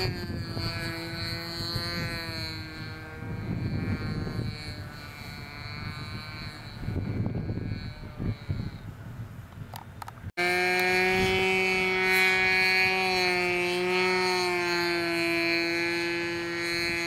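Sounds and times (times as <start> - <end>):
model plane engine flying overhead: 0.0 - 17.0.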